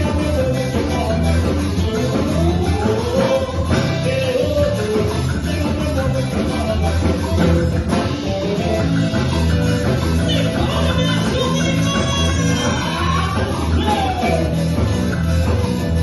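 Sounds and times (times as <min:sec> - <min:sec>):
band playing a song: 0:00.0 - 0:16.0
bass line: 0:00.0 - 0:16.0
guitar: 0:00.0 - 0:16.0.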